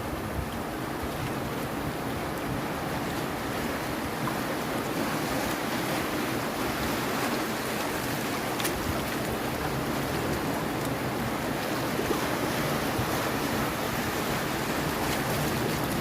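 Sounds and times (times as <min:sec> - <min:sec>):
ocean waves on a beach: 0:00.0 - 0:16.0.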